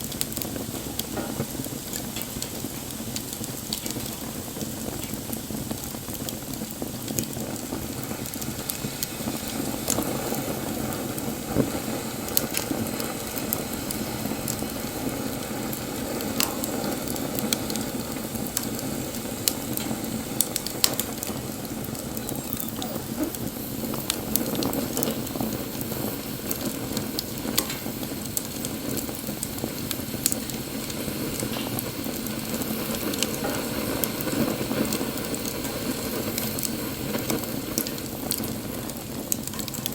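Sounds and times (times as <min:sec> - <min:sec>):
burning wood crackling and popping: 0:00.0 - 0:39.9
wood fire hissing: 0:00.0 - 0:39.9.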